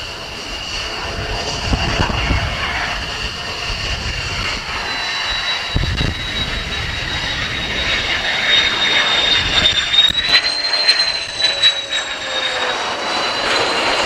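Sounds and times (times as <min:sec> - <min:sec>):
gusty low rumble: 0:00.0 - 0:11.7
jet engine whine: 0:00.0 - 0:14.0.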